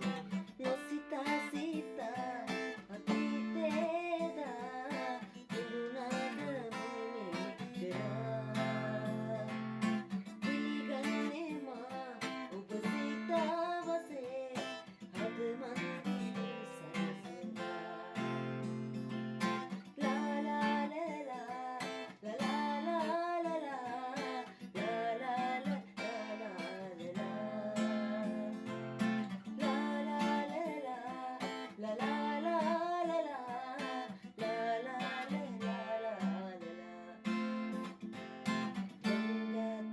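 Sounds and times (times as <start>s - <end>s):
acoustic guitar: 0.0s - 39.9s
person singing: 0.0s - 39.9s.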